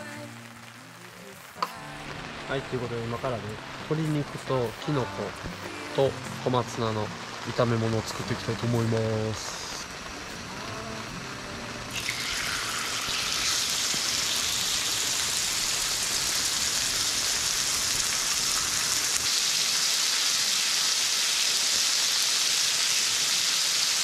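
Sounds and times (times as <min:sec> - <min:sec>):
chicken sizzling in oil: 0:01.3 - 0:24.0.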